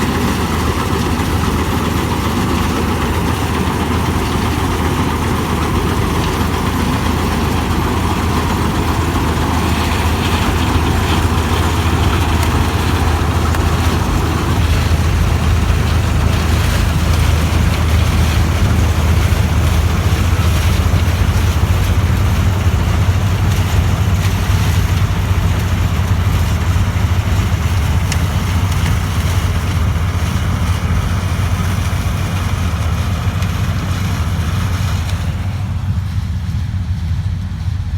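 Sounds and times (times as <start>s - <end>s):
combine harvester engine hum: 0.0s - 37.9s
machinery noise: 0.0s - 37.9s.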